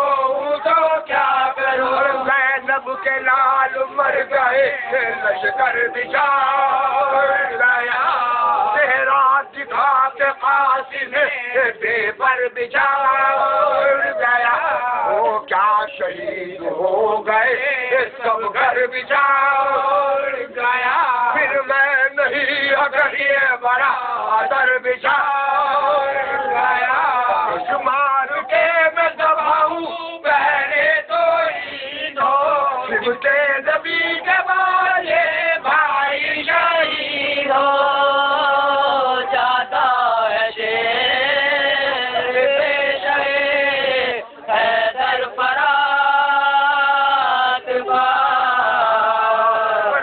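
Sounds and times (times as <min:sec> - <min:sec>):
person chanting unaccompanied elegy: 0:00.0 - 0:50.0.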